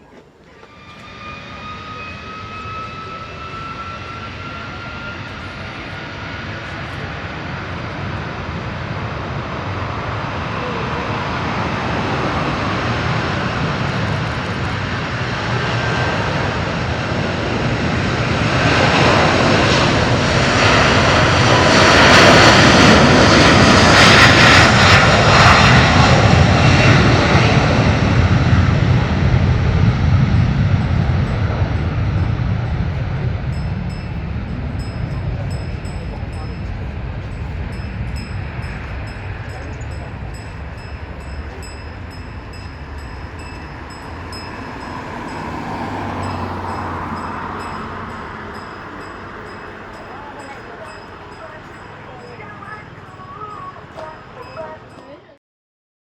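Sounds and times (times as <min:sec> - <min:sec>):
jet airliner taking off: 0:00.1 - 0:55.0.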